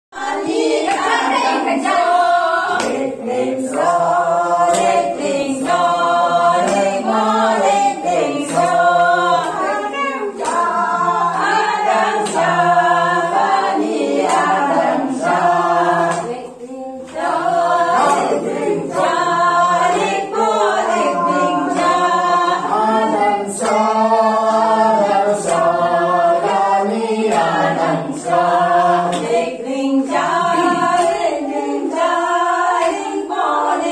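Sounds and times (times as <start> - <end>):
group singing without instruments: 0.2 - 33.9.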